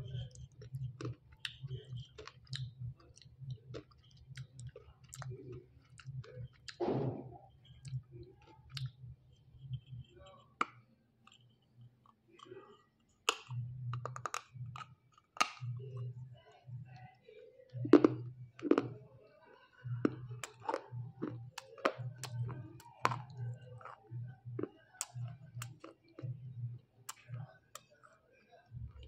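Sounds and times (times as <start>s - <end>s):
crunching of hard clay being chewed: 0.0s - 6.8s, 7.5s - 16.3s, 17.8s - 19.0s, 19.8s - 28.2s
dull chewing pulse: 0.0s - 19.0s, 19.8s - 29.0s.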